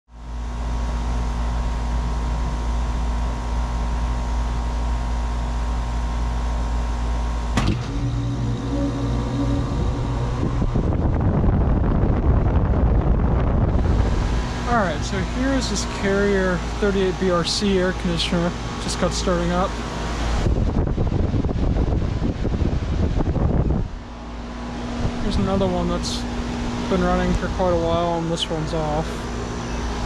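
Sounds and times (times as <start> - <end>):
compressor humming: 0.1 - 30.0
fan rushing air: 0.1 - 30.0
low hum: 0.3 - 30.0.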